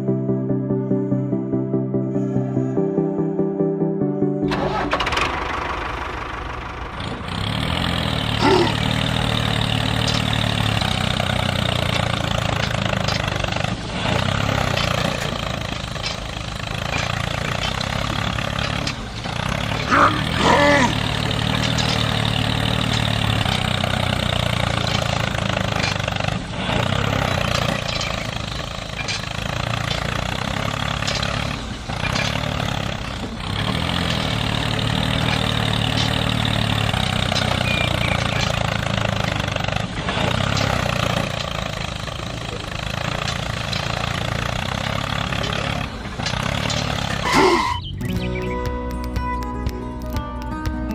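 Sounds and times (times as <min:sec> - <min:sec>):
tractor engine running: 0:04.4 - 0:50.9.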